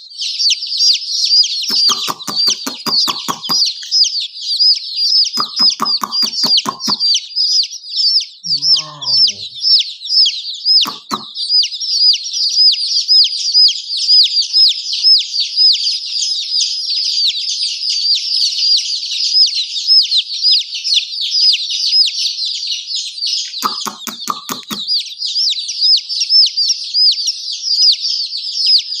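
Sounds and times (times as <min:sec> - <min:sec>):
baby chicks peeping: 0:00.0 - 0:29.0.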